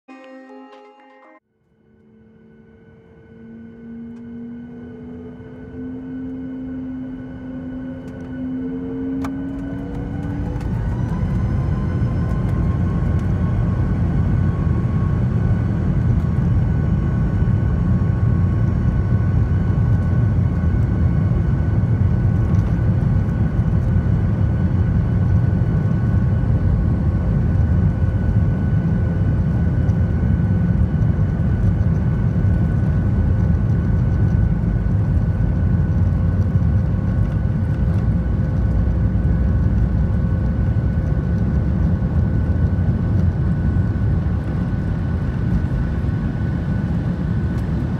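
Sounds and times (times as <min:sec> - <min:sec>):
jet engines spooling up: 0:01.9 - 0:47.9.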